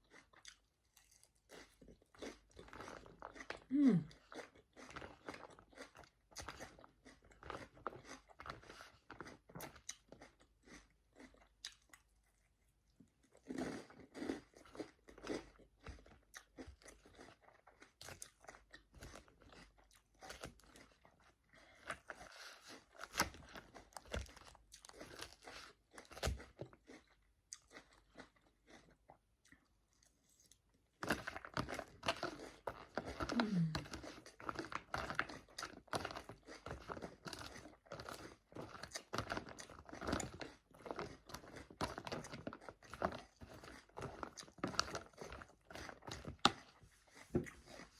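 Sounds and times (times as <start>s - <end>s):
chewing and crunching salad: 0.0s - 47.9s.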